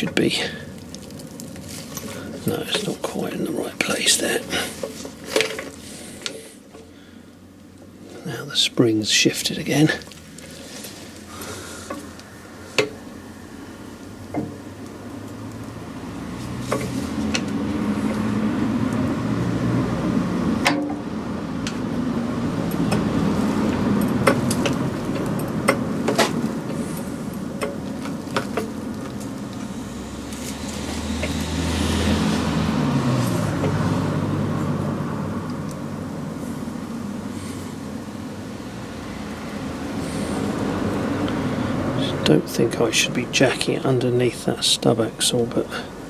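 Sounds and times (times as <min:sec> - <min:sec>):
road vehicles passing: 0:00.0 - 0:46.0.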